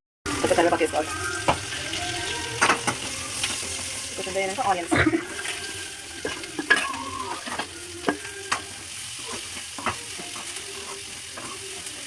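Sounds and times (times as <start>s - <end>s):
food sizzling in hot oil: 0.3s - 12.0s
spoon scraping a pan: 0.3s - 12.0s.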